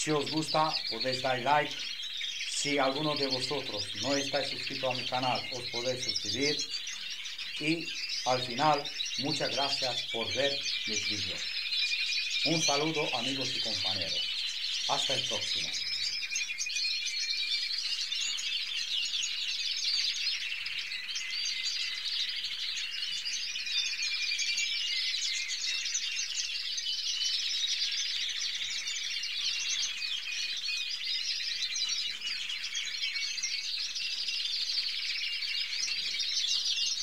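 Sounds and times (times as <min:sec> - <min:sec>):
canaries chirping and singing: 0:00.0 - 0:37.0.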